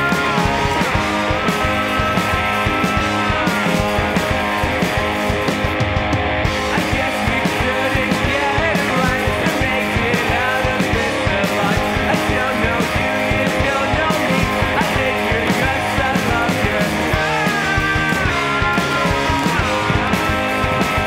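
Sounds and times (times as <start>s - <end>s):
rock music with steady beat: 0.0s - 21.0s.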